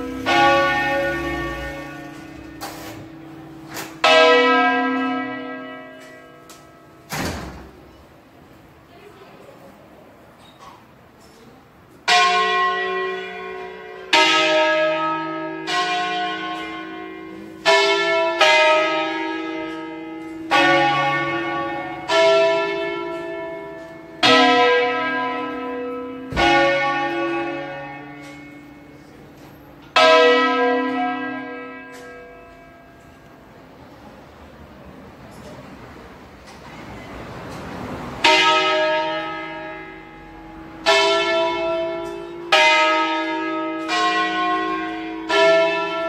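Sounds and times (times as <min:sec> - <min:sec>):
church bells ringing: 0:00.0 - 0:08.1, 0:12.0 - 0:34.2, 0:37.5 - 0:46.0.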